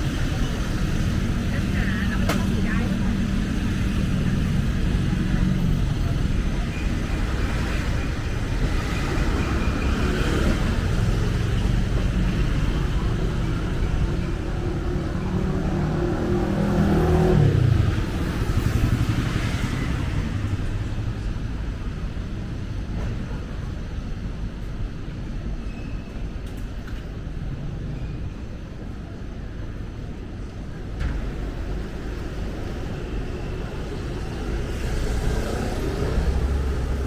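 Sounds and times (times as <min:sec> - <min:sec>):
road traffic passing: 0:00.0 - 0:24.7, 0:29.9 - 0:37.0.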